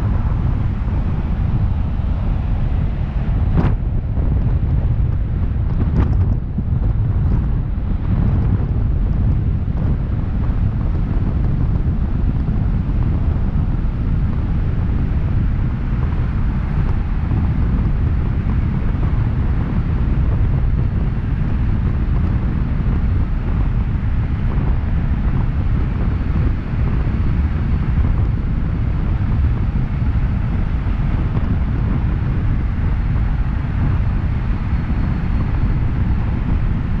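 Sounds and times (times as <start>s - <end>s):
car road and tyre noise: 0.0s - 37.0s
wind buffeting microphone: 0.0s - 37.0s.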